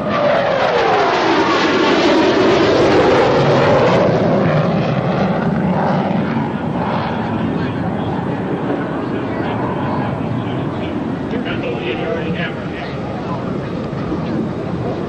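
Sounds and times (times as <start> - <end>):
low-flying aircraft passing: 0.0 - 15.0.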